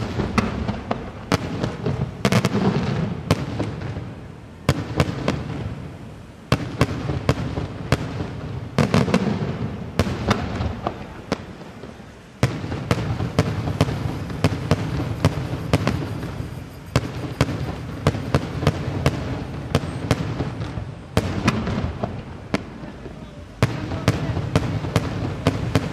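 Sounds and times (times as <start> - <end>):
fireworks bursting: 0.0 - 25.9.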